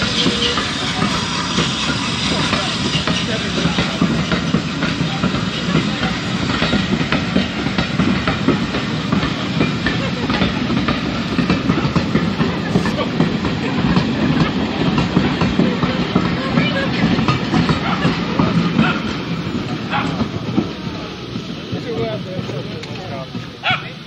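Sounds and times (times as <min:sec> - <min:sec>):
train coaches rumbling past: 0:00.0 - 0:24.0
wheels clicking on rails: 0:00.0 - 0:24.0.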